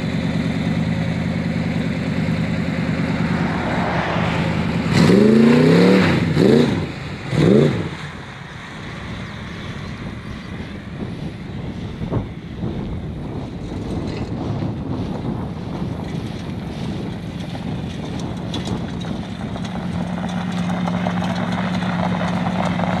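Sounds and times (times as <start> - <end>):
car engine driving up: 0.0 - 23.0
gravel crunching under tyres: 0.0 - 23.0.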